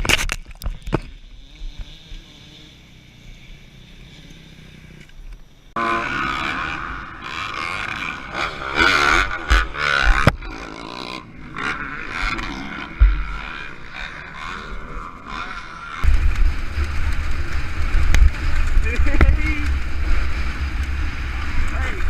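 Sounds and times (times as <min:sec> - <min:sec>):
motorcycle engine revving: 0:00.8 - 0:22.0.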